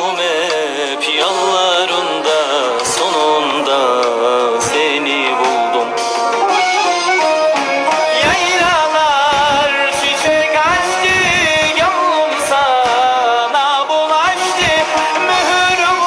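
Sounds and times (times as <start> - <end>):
folk instruments playing: 0.0 - 16.0
person singing ornamented melody: 0.0 - 16.0.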